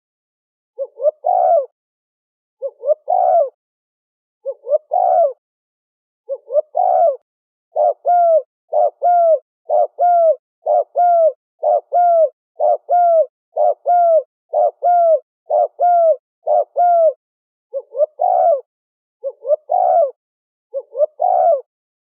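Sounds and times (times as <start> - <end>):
dove cooing: 0.8 - 1.7, 2.6 - 3.6, 4.4 - 5.4, 6.3 - 21.7.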